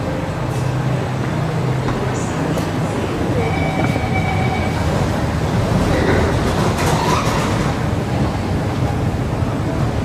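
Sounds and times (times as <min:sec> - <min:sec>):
metro train rumbling: 0:00.0 - 0:10.0.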